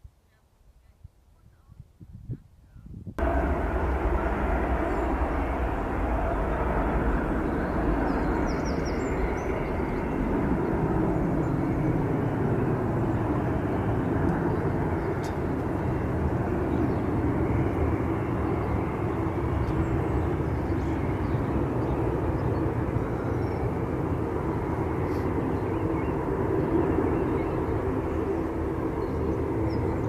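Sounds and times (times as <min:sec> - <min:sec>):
jet engine drone: 0:03.2 - 0:30.0.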